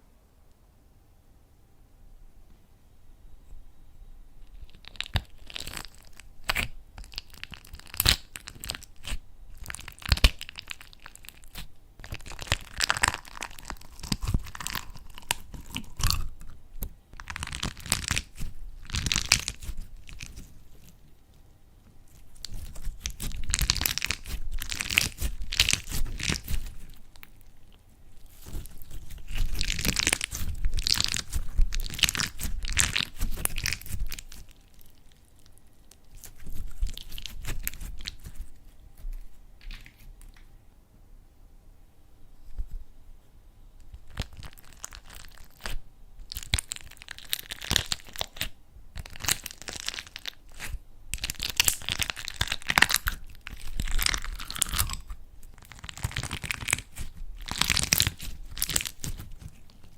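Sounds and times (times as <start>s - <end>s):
slime crackling when squeezed: 4.6s - 20.9s, 22.1s - 40.1s, 43.9s - 59.9s.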